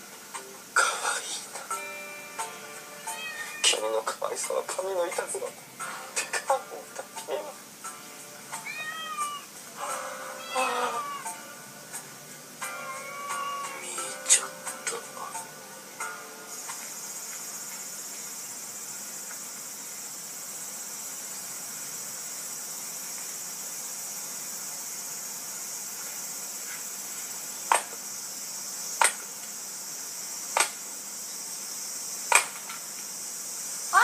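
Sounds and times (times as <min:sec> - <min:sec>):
insect chorus: 0:00.0 - 0:34.0.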